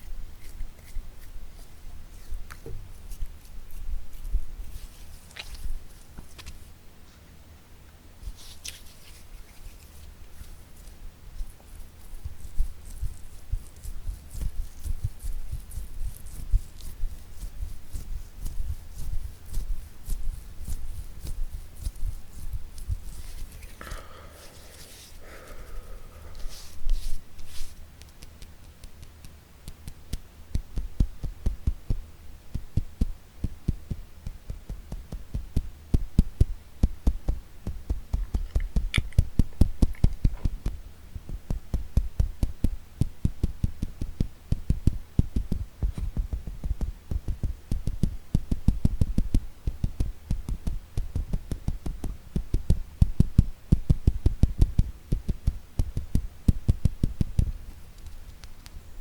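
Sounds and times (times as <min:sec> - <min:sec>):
fingertips tapping on object: 0:09.1 - 0:58.8.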